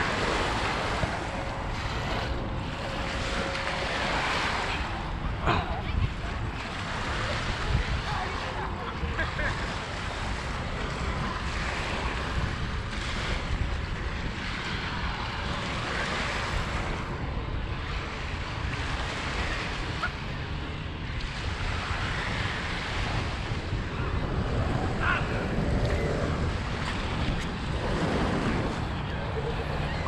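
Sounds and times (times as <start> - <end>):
waves washing onto beach: 0.0 - 30.0
wind buffeting microphone: 0.0 - 30.0.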